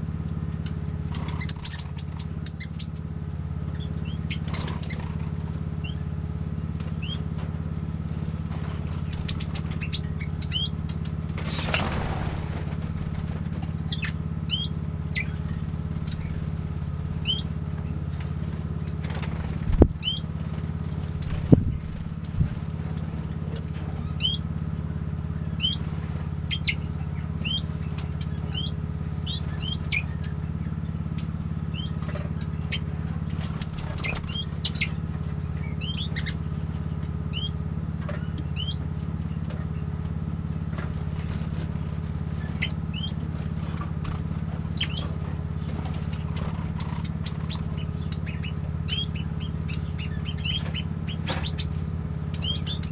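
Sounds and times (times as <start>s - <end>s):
low hum: 0.0s - 52.9s
small birds chirping: 0.0s - 52.9s.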